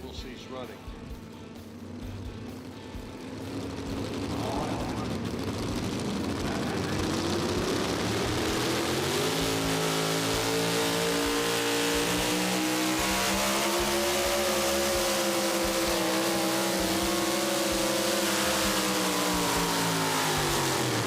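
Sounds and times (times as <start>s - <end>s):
truck engine at high revs: 0.0s - 21.0s.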